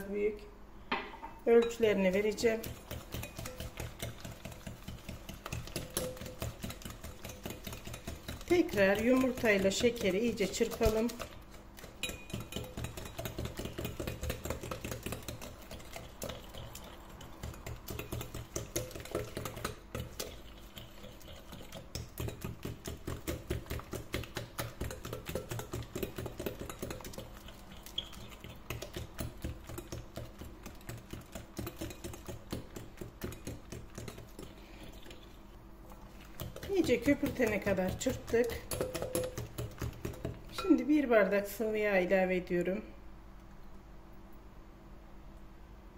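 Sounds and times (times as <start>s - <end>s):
wire whisk beating in glass bowl: 1.6s - 35.2s, 36.2s - 41.1s.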